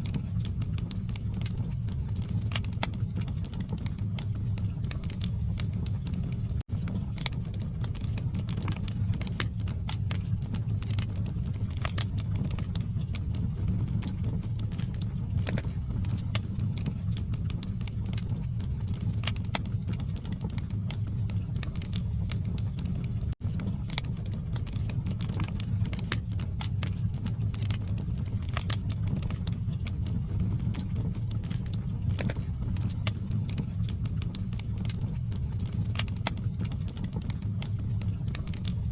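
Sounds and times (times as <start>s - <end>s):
burning logs crackling: 0.0s - 38.9s
fire flames rumbling: 0.0s - 38.9s.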